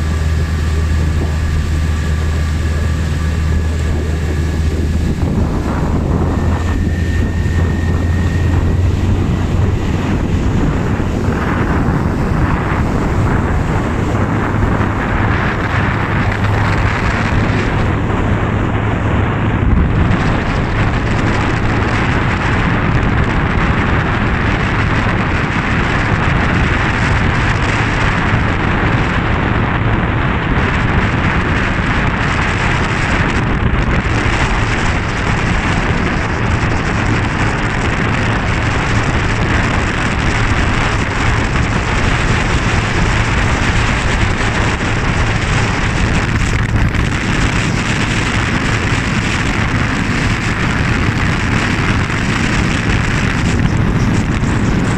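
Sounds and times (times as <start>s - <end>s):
low boat engine drone: 0.0s - 54.9s
wind and water rushing: 0.0s - 54.9s.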